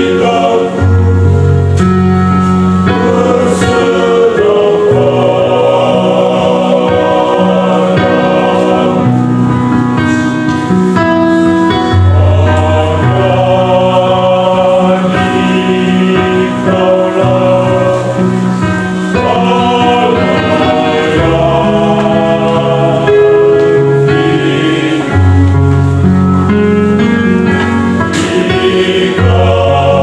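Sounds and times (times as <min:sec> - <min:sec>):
vocal group singing gospel: 0:00.0 - 0:10.4, 0:11.6 - 0:26.0, 0:27.5 - 0:30.0.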